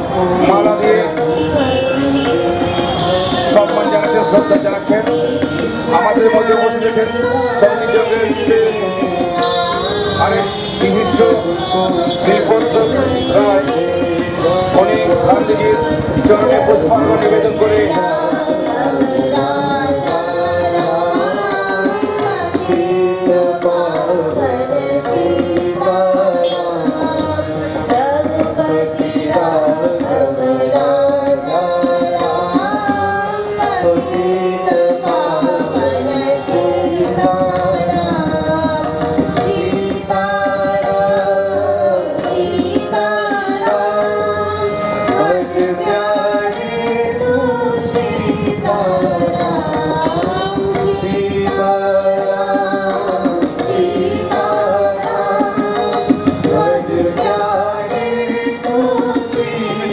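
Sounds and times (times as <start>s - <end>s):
man and woman singing: 0.0s - 59.9s
steady drumbeat: 0.0s - 59.9s.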